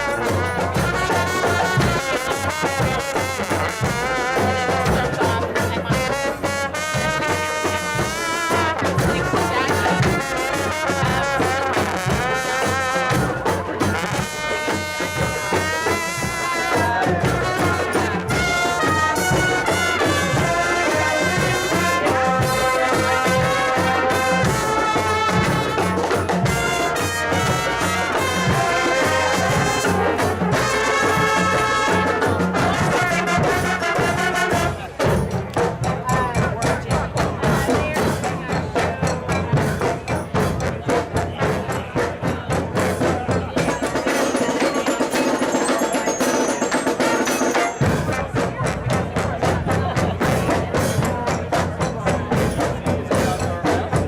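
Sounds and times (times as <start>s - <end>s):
brass marching band: 0.0s - 54.0s
drums beating: 0.0s - 54.0s.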